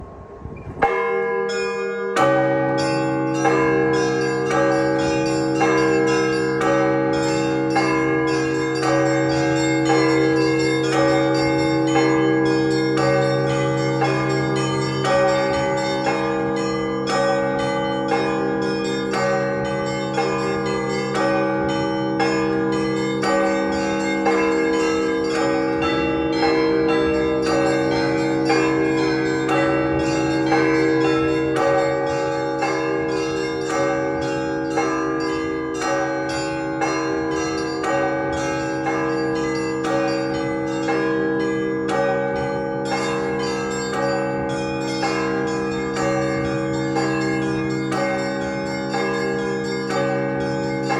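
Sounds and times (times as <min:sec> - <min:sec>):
low tones of large bells: 0:00.0 - 0:50.9
rapid patter of small bells: 0:00.8 - 0:50.9.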